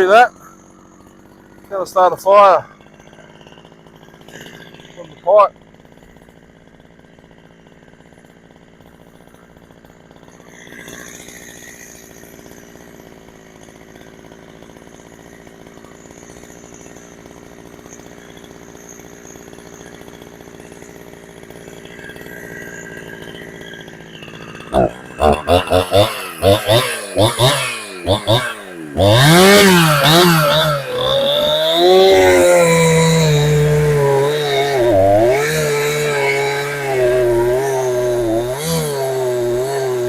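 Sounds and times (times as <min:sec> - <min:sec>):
chainsaw idling: 0:00.0 - 0:40.0.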